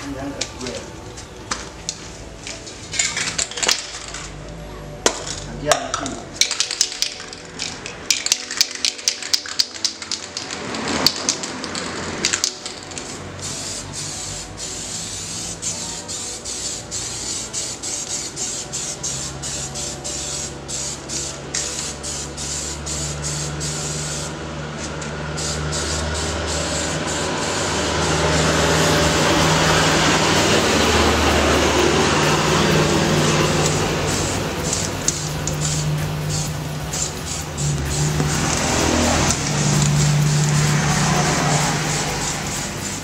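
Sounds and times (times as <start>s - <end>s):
spray paint can hissing: 1.2s - 4.4s, 6.3s - 43.0s.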